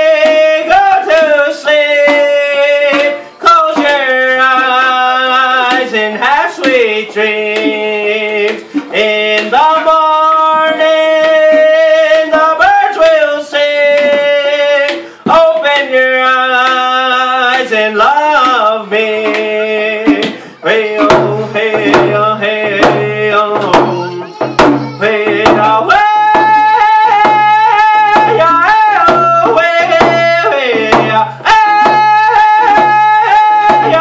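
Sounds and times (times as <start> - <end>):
frame drum beating: 0.0 - 34.0
man singing: 0.0 - 34.0.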